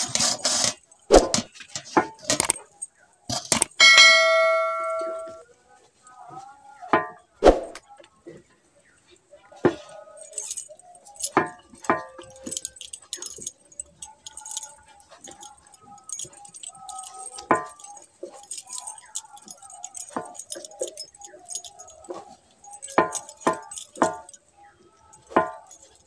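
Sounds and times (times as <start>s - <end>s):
bangles clinking and jingling: 0.0s - 26.0s.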